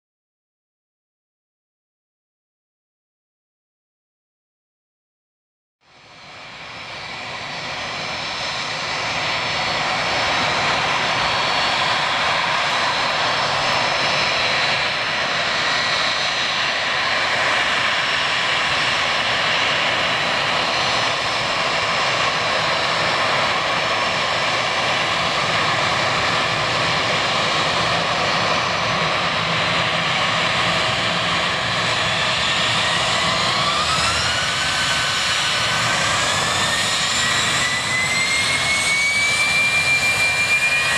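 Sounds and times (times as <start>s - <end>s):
jet engines whining: 6.0s - 40.9s.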